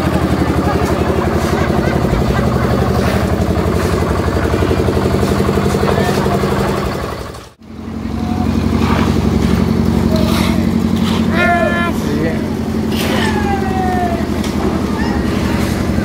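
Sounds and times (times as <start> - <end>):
concrete mixer engine chugging: 0.0 - 16.0
workers' voices: 0.0 - 16.0.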